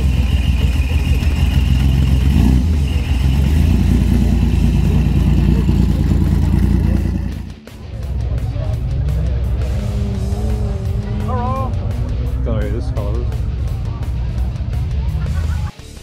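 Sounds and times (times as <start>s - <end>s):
car engine running at low revs: 0.0s - 15.7s.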